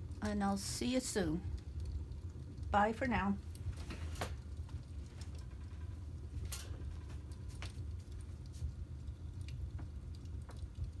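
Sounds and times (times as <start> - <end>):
log fire crackling: 0.0 - 11.0.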